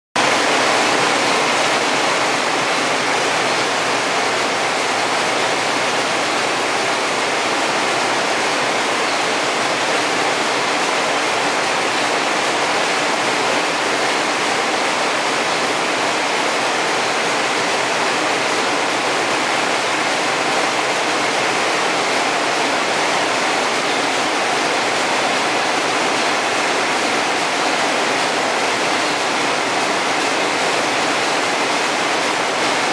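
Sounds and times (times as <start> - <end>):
needle looms weaving: 0.2 - 32.9.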